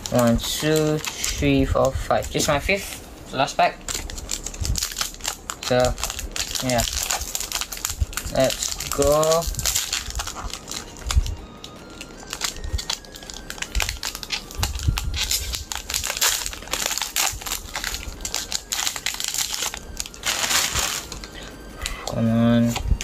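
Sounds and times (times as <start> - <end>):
foil wrapper crinkling and tearing: 0.0 - 23.0.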